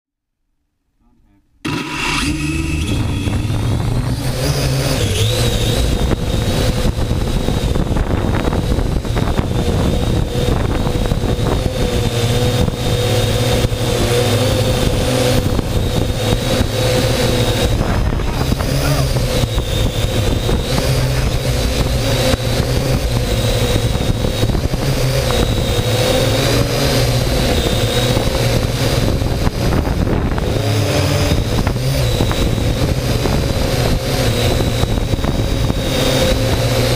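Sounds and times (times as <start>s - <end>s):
drone propellers whining: 1.6s - 36.9s
wind rumble on microphone: 2.2s - 36.9s.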